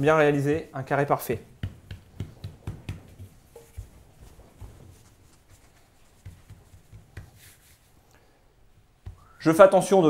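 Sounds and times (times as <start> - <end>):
hands patting pastry dough: 0.4 - 8.1, 8.7 - 9.9.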